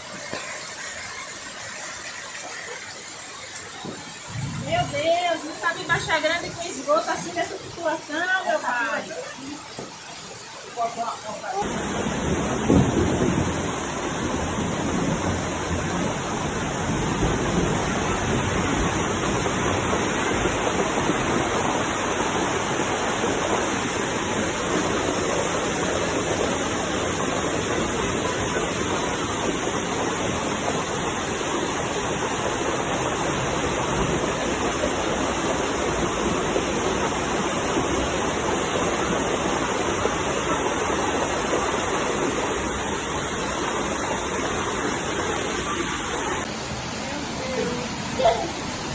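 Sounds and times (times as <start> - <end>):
heavy rain: 0.0 - 48.9
running water: 0.0 - 48.9.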